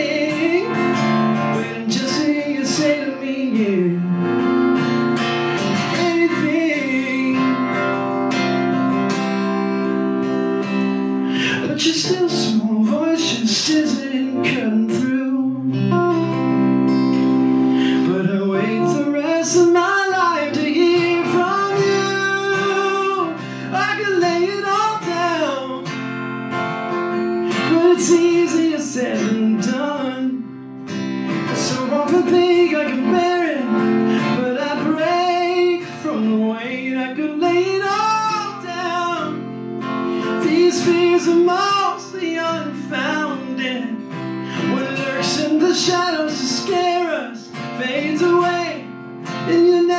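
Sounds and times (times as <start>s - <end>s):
person singing: 0.0s - 9.8s, 10.6s - 25.9s, 27.0s - 30.6s, 31.2s - 49.9s
acoustic guitar chords: 0.0s - 49.9s.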